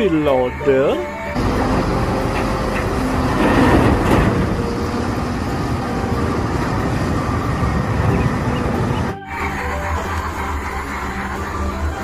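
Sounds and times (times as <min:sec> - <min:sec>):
diesel engine running heavily: 0:00.0 - 0:12.0.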